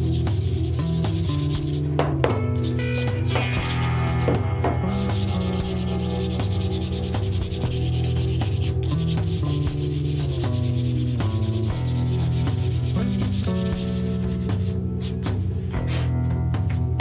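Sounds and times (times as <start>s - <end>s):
hand sanding wood: 0.0s - 1.9s, 2.6s - 4.3s, 5.0s - 15.2s
background music with bass and guitar: 0.0s - 17.0s.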